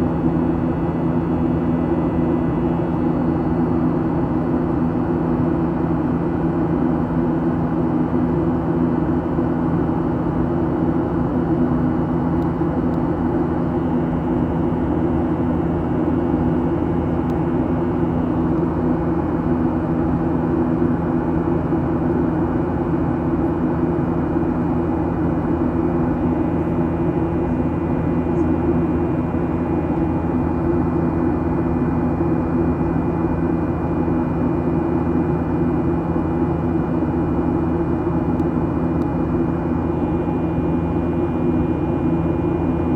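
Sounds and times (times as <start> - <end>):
jet airliner cabin drone: 0.0 - 42.9.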